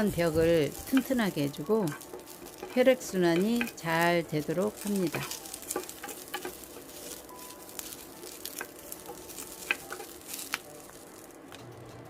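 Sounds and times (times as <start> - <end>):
nuts sizzling in a frying pan: 0.0 - 12.0.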